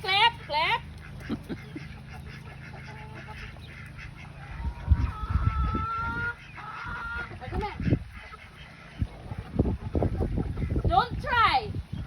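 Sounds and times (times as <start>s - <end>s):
fowl calling: 0.0s - 11.1s.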